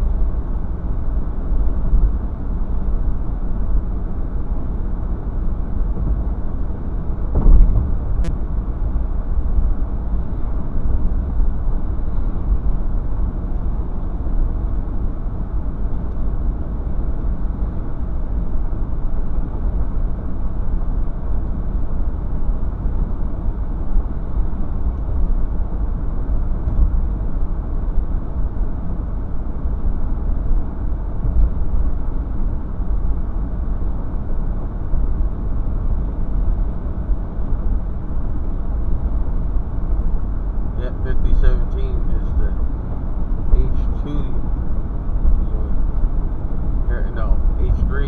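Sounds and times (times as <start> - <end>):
low vehicle rumble: 0.0 - 48.0.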